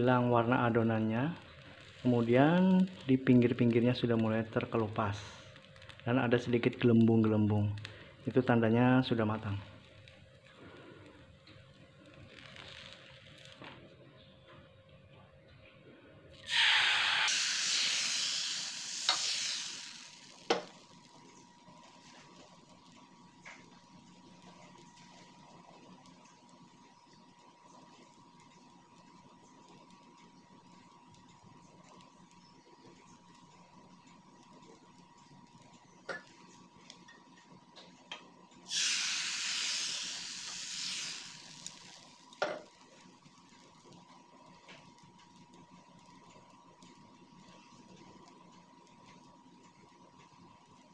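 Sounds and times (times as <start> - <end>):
batter sizzling in hot pan: 0.0 - 14.4, 16.3 - 50.9.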